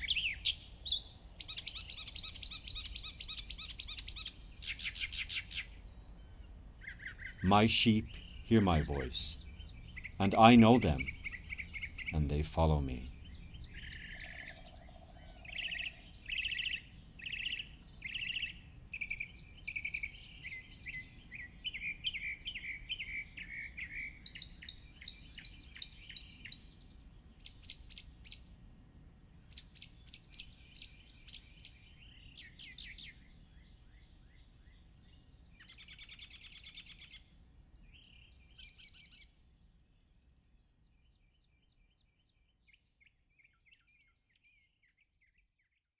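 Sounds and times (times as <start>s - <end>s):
faint background noise: 0.0s - 45.6s
songbirds singing: 0.0s - 45.9s.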